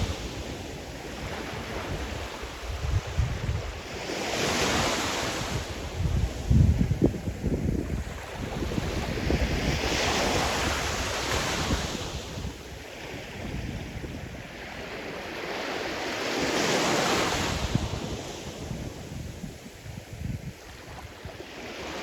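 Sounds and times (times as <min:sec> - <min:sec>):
waves breaking on shore: 0:00.0 - 0:22.0.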